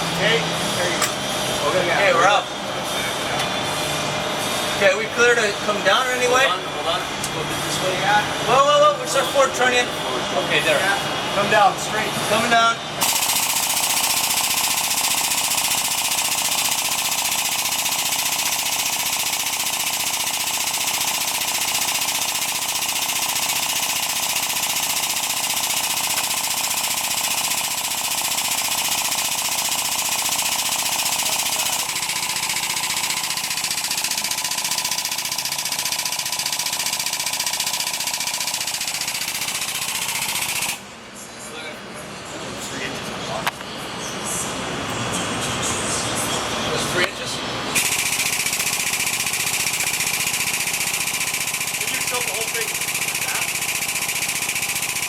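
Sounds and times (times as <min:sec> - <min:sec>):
machine motor and hydraulic pump: 0:00.0 - 0:40.9, 0:47.7 - 0:55.0.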